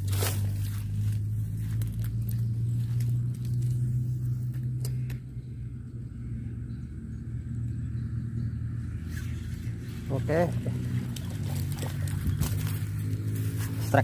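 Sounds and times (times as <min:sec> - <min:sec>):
small engine humming: 0:00.0 - 0:14.0.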